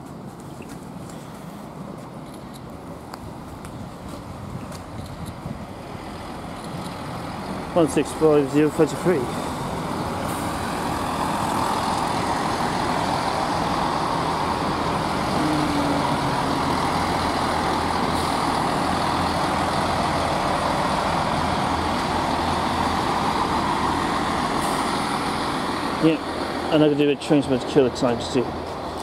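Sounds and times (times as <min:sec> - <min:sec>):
diesel train engine: 0:00.0 - 0:29.0
train wheels on rails: 0:00.0 - 0:29.0.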